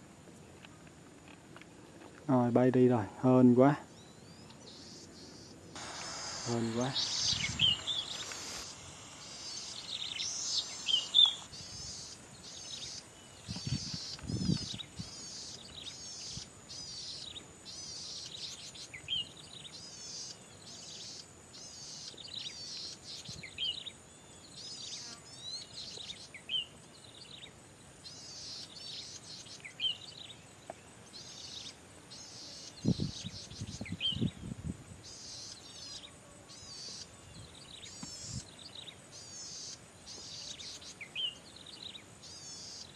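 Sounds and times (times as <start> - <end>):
steady high hiss: 0.0 - 42.9
bird singing buzzy notes: 3.2 - 42.9.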